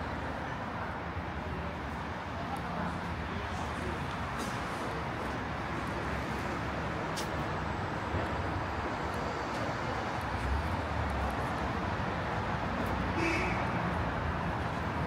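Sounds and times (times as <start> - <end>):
passing cars: 0.0 - 15.0.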